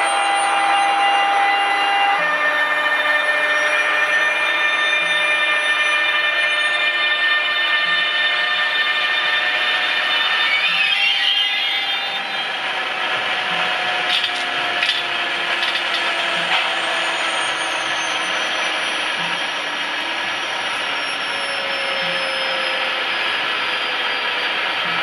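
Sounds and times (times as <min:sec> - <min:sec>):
thin electric whines: 0:02.9 - 0:25.0
model locomotive rushing noise: 0:03.6 - 0:25.0.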